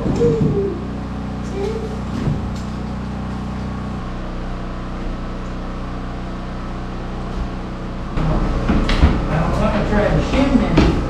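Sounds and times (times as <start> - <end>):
engine running steadily: 0.0 - 11.0
loud irregular noise: 0.0 - 11.0.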